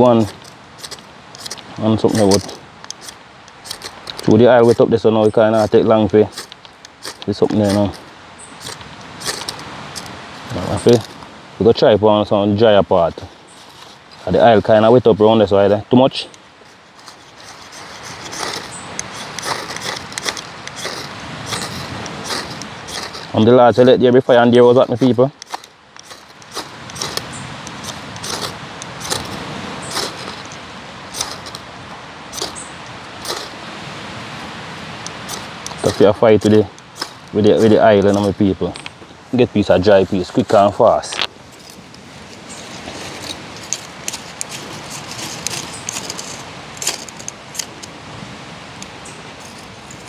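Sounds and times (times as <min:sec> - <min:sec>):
wood fire crackling: 0:00.0 - 0:11.5, 0:16.2 - 0:33.7, 0:34.4 - 0:48.0
steady hiss: 0:00.0 - 0:50.0.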